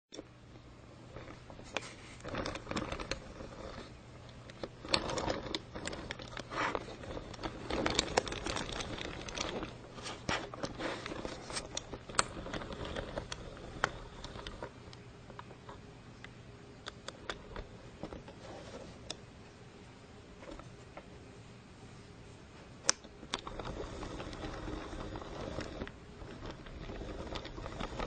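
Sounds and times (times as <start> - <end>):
crinkling: 0.2 - 19.6, 20.4 - 28.0.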